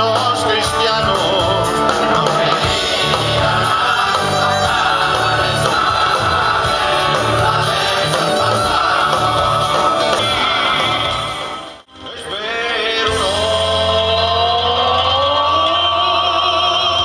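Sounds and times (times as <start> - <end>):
live band playing folk music: 0.0 - 17.0
voices singing: 0.0 - 17.0.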